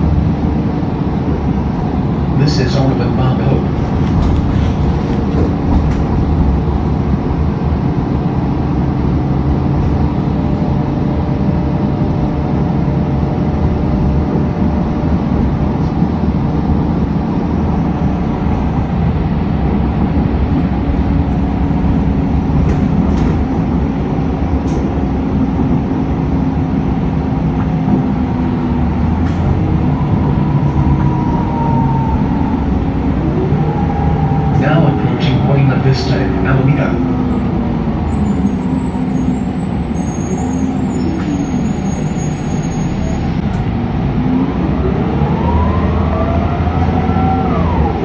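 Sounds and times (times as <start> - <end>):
bus drivetrain hum: 0.0 - 48.0
road rumble: 0.0 - 48.0.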